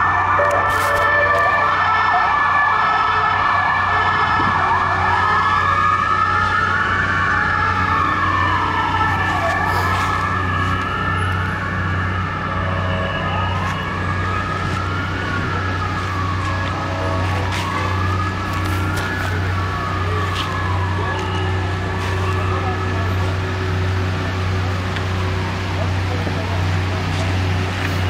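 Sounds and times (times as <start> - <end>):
emergency vehicle siren: 0.0 - 28.0
low traffic rumble: 0.0 - 28.0.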